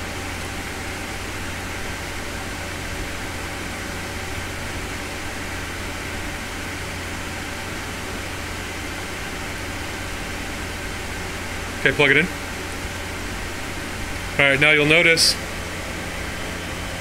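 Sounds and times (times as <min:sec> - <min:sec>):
server cooling fans whirring: 0:00.0 - 0:17.0.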